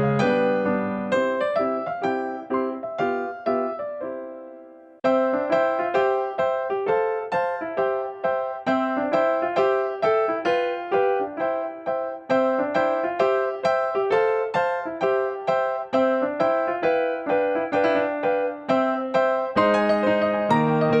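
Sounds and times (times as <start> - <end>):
cheerful piano tune: 0.0 - 21.0.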